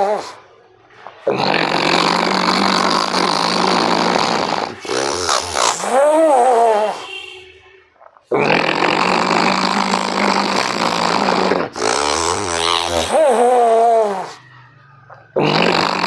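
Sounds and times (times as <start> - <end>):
rasping breath through throat: 0.0 - 7.1, 8.0 - 16.0
voiced wavering breath: 1.2 - 7.0, 8.8 - 16.0.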